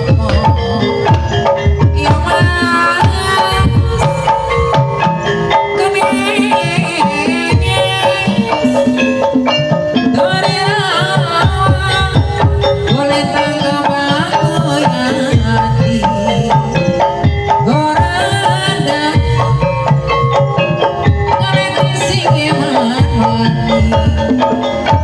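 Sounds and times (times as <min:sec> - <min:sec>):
hand drums playing busy rhythm: 0:00.0 - 0:25.0
pitched melodic instruments: 0:00.0 - 0:25.0.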